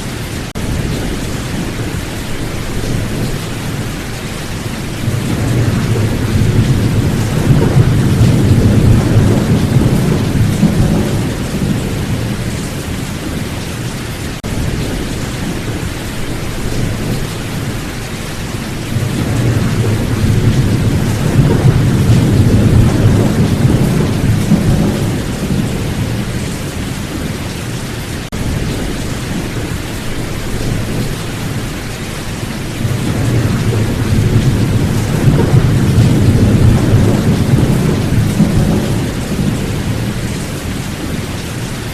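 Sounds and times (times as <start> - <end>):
heavy rain: 0.0 - 41.9
low thunder rumbling: 0.3 - 41.9.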